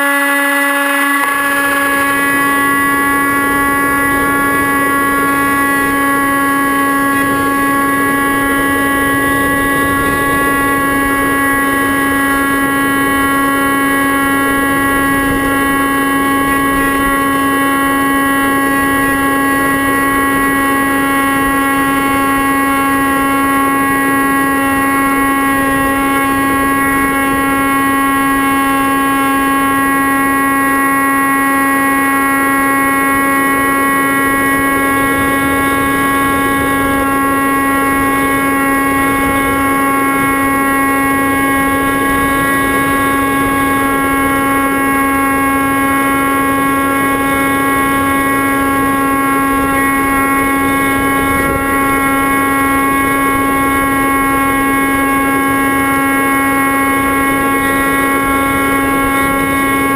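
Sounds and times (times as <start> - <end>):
model aircraft motor whine: 0.0 - 59.9
prop wash and wind hiss: 0.0 - 59.9.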